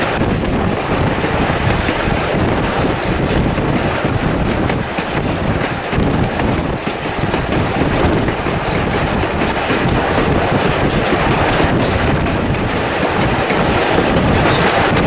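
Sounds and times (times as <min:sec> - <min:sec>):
train wheels rumbling on rails: 0:00.0 - 0:15.0
wind rushing: 0:00.0 - 0:15.0.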